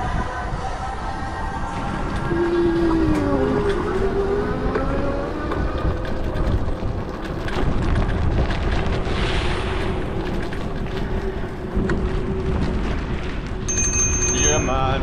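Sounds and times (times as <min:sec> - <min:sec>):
street traffic rumble: 0:00.0 - 0:15.0
wind buffeting microphone: 0:00.0 - 0:15.0.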